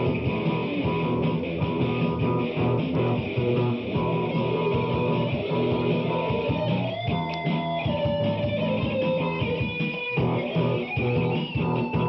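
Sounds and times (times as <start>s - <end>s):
bass guitar: 0.0s - 12.0s
drum machine beat: 0.0s - 12.0s
electric guitar riff: 0.0s - 12.0s.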